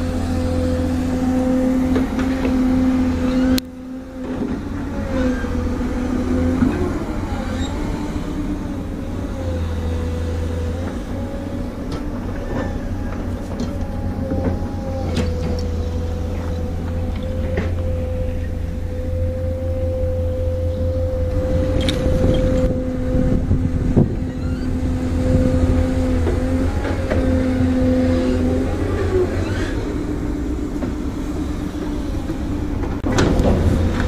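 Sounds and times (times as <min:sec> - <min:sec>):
diesel engine of heavy machinery: 0:00.0 - 0:34.0.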